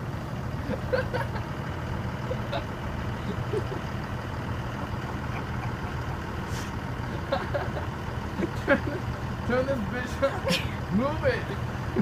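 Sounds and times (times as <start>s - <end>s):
heavy engine idling: 0.0s - 12.0s.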